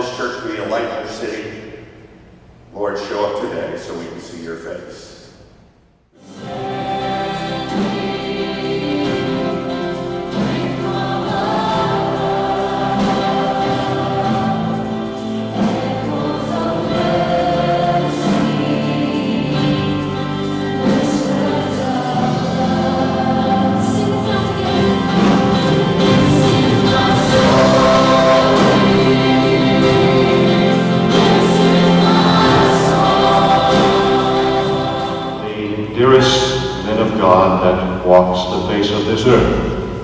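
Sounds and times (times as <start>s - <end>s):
choir singing a hymn: 6.2s - 40.0s
instrumental accompaniment: 6.2s - 40.0s.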